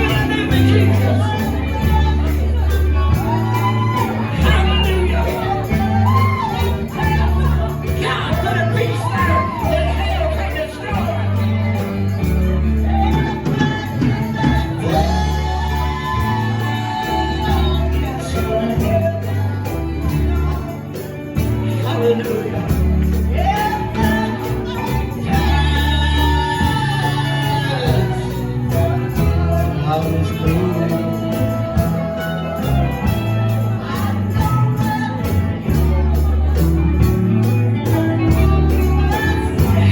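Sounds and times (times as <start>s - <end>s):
bass and drum beat: 0.0s - 39.9s
person singing: 0.0s - 39.9s
tambourine: 0.0s - 39.9s.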